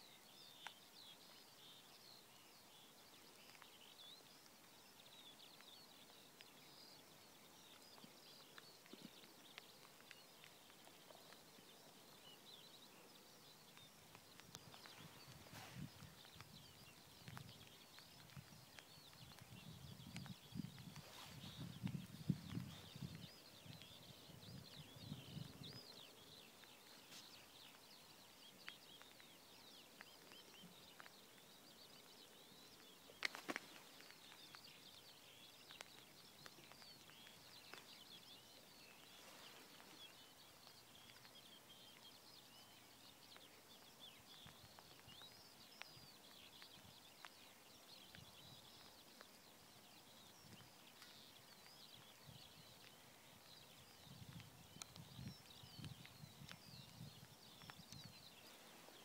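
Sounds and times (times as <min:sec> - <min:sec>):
distant songbirds chirping: 0:00.0 - 0:59.0.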